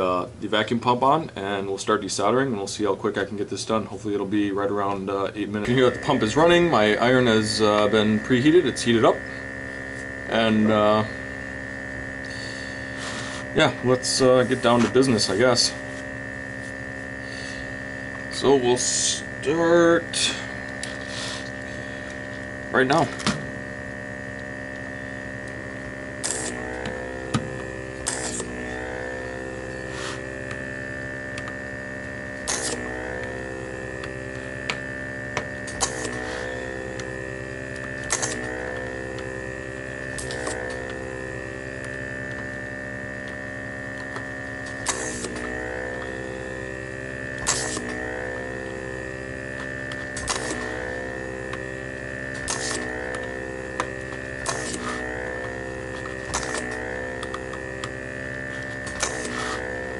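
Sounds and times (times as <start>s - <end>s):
vacuum pump humming: 0.0s - 59.9s.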